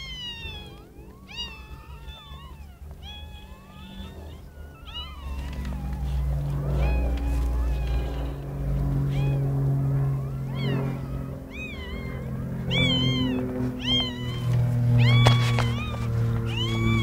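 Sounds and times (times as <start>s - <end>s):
puppies squealing: 0.0s - 17.0s.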